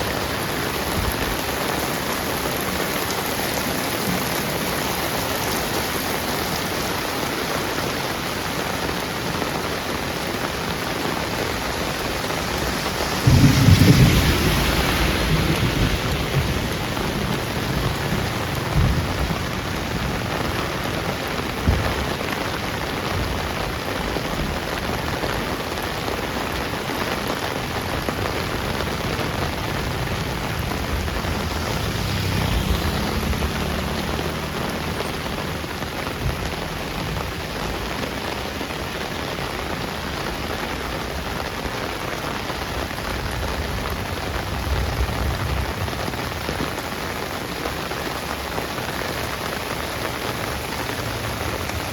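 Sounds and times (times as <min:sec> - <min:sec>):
heavy rain on hard surfaces: 0:00.0 - 0:51.9.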